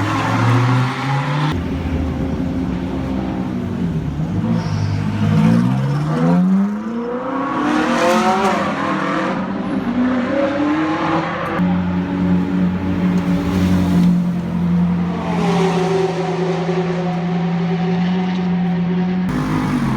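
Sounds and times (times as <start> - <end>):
race car engine revving: 0.0 - 19.9.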